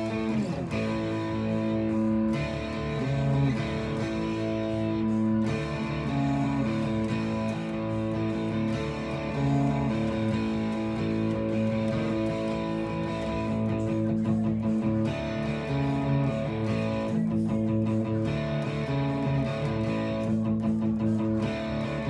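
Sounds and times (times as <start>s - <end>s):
overdriven electric guitar strumming: 0.0s - 22.0s
recorded song playing: 0.0s - 22.0s.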